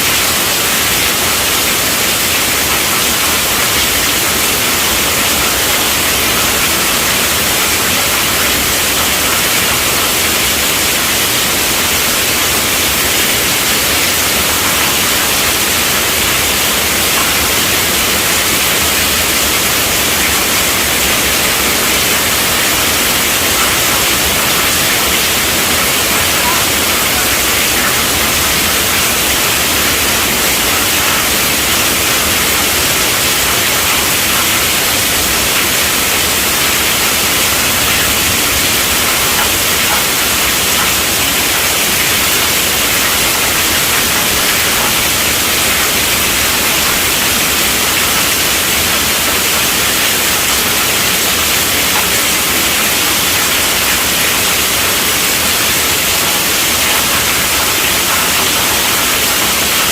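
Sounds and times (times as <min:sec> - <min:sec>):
heavy rain on a tent roof: 0:00.0 - 0:59.9.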